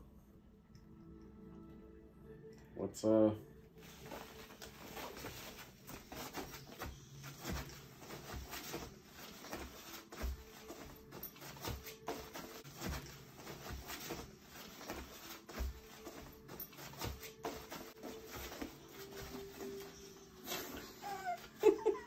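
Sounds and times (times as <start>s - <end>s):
dog scuffing fabric bed: 3.8s - 21.5s.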